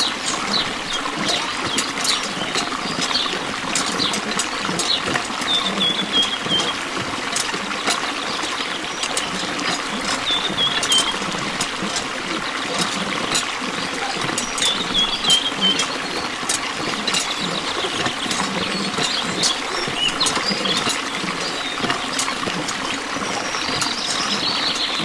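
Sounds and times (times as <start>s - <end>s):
pump clicks and squeaks: 0.0s - 25.0s
water pouring into pool: 0.0s - 25.0s.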